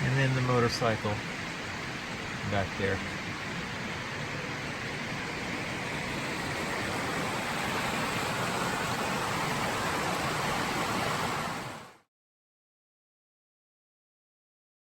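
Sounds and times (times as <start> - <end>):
creek water rushing: 0.0 - 12.1.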